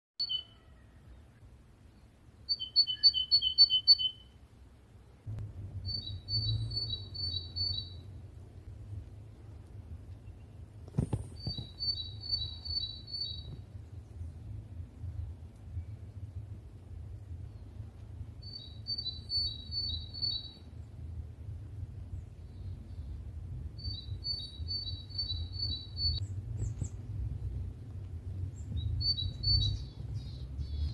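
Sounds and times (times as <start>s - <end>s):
songbird singing: 0.2s - 30.9s
low rumble: 4.6s - 30.9s.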